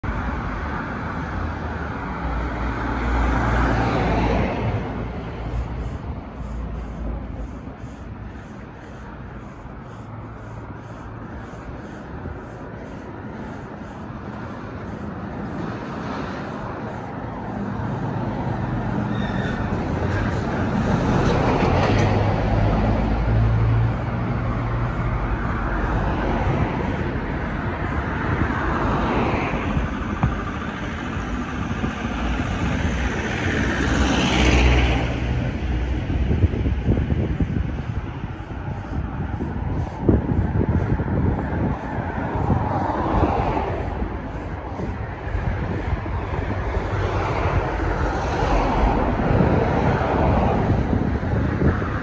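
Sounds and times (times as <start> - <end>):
cars passing: 0.0 - 52.0
steady traffic hum: 0.0 - 52.0.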